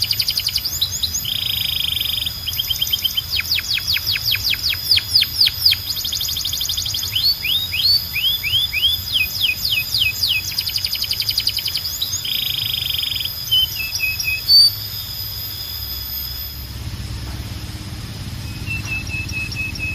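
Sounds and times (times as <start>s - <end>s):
canary singing: 0.0s - 19.9s.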